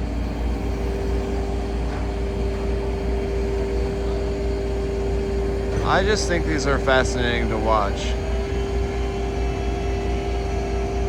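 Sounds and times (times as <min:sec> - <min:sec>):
steady engine-like drone: 0:00.0 - 0:11.0.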